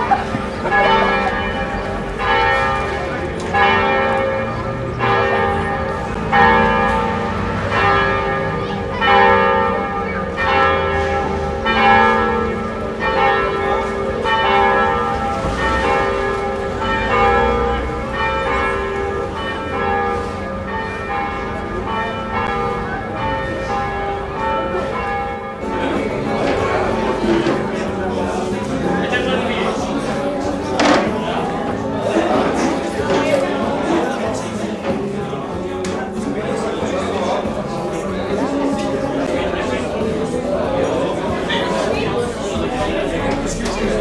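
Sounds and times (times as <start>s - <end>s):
church bells ringing: 0.0s - 44.0s.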